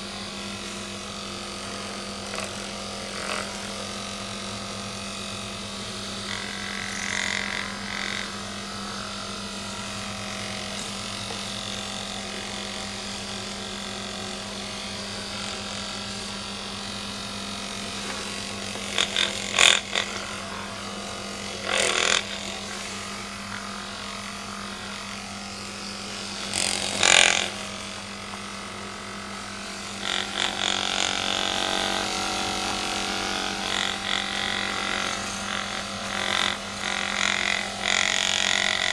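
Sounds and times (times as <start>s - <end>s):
vibrating massager motor humming: 0.0s - 38.9s.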